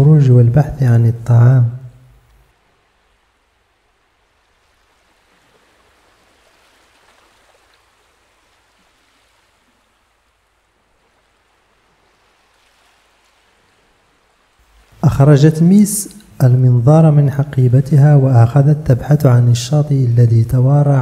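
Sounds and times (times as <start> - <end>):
sea waves: 0.3 - 21.0.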